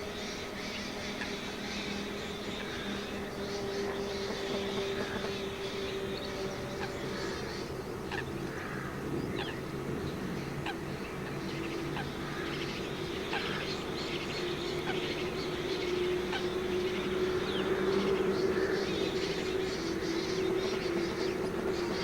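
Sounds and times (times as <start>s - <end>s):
steady low hum: 0.0s - 22.0s
coots calling: 0.7s - 20.0s.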